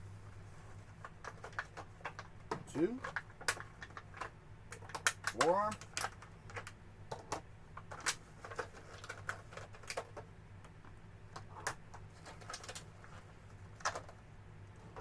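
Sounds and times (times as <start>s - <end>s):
plastic parts clicking and tapping: 1.0s - 13.2s, 13.8s - 14.2s.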